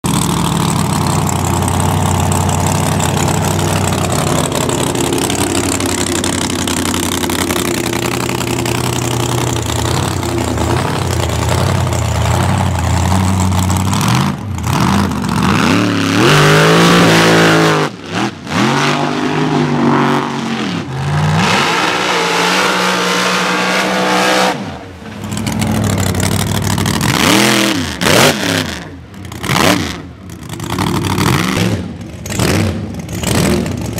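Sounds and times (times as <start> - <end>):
truck engine revving: 0.0 - 33.9.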